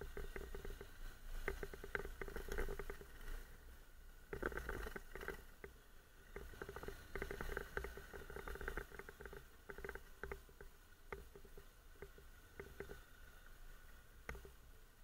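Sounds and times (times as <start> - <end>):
motorcycle clicking and rattling: 0.0 - 3.5, 4.3 - 13.3
faint motorcycle engine drone: 0.0 - 15.0.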